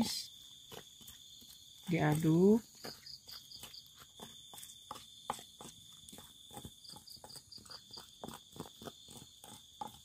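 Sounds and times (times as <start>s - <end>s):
crickets chirping: 0.0s - 10.0s
wooden pestle scraping stone mortar: 0.1s - 10.0s.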